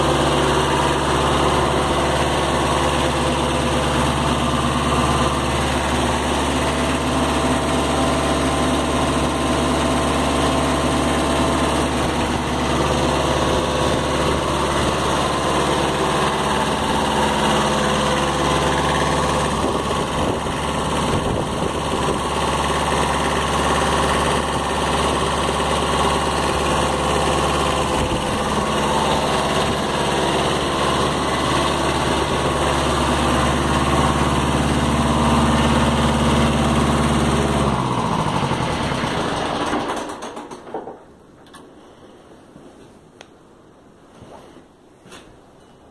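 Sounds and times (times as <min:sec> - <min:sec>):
tractor diesel engine running: 0:00.0 - 0:40.8.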